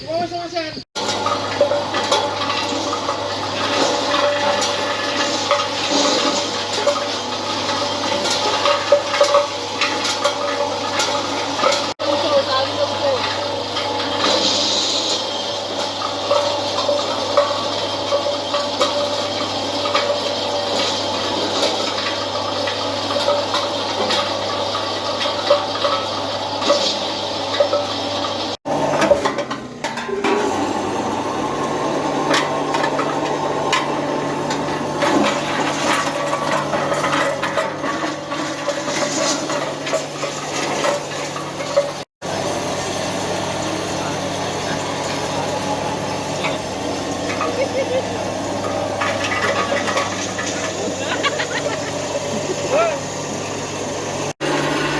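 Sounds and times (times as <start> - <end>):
milling machine whirring: 0.0 - 54.9.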